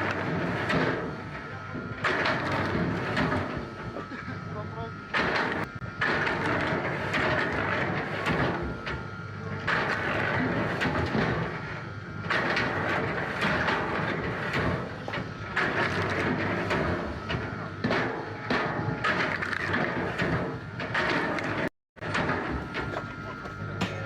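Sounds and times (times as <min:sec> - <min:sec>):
wood processing machinery running: 0:00.0 - 0:24.0.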